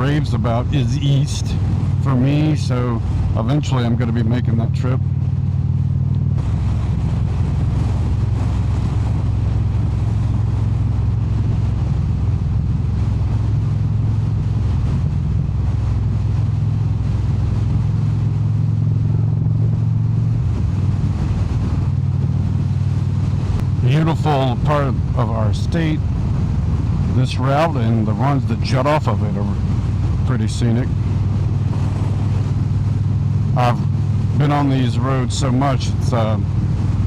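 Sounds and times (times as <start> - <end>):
motorcycle engine drone: 0.0 - 37.0
road noise: 0.0 - 37.0
wind noise: 0.0 - 37.0.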